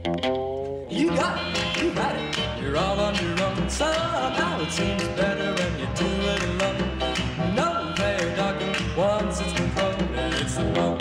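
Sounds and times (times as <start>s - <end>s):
country song with guitar: 0.0s - 11.0s.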